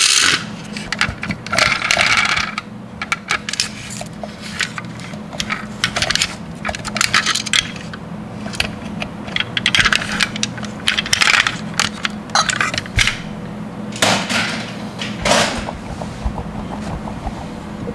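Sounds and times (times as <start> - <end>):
steady low hum: 0.3 - 17.9.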